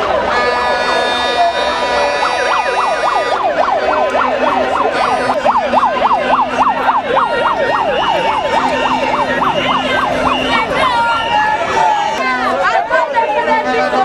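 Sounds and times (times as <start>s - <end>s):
siren wailing in a fast yelp: 0.0s - 14.0s.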